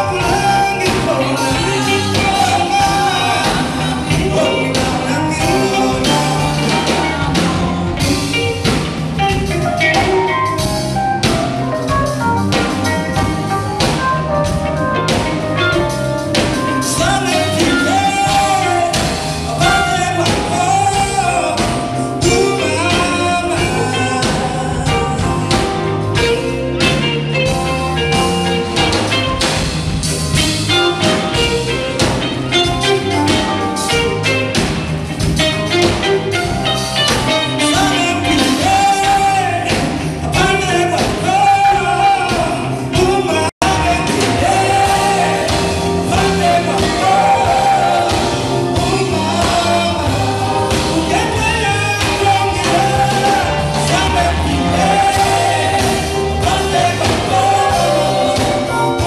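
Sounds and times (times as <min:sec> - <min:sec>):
person singing: 0:00.0 - 0:29.4, 0:30.4 - 0:59.0
drum kit beat: 0:00.0 - 0:59.0
electric guitar: 0:00.0 - 0:59.0.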